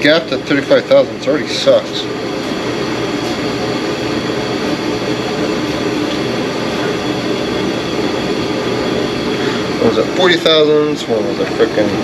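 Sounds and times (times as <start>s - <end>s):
heater rushing hum: 0.0s - 12.0s.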